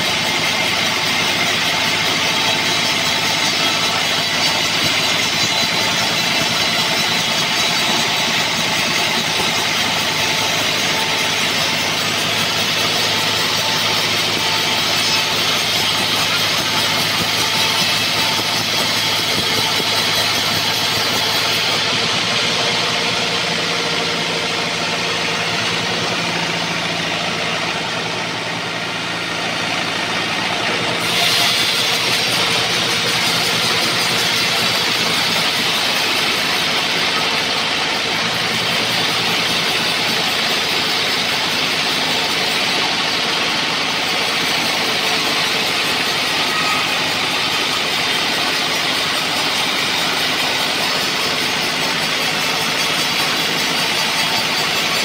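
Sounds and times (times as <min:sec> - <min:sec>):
band saw running: 0:00.0 - 0:55.0
saw blade cutting log: 0:00.0 - 0:55.0.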